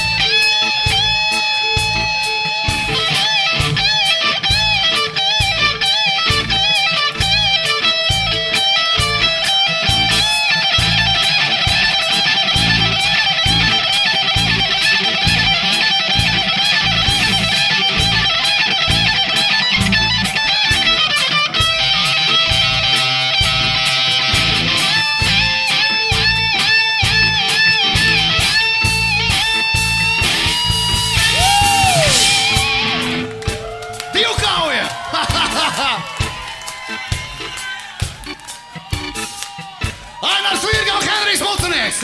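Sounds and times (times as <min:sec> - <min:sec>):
bass guitar: 0:00.0 - 0:41.0
drum beat: 0:00.0 - 0:42.0
lead electric guitar: 0:00.0 - 0:42.0.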